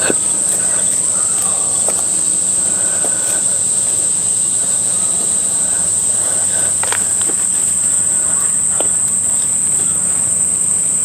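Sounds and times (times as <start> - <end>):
faint clicks: 0.0 - 10.5
insect chorus drone: 0.0 - 11.0.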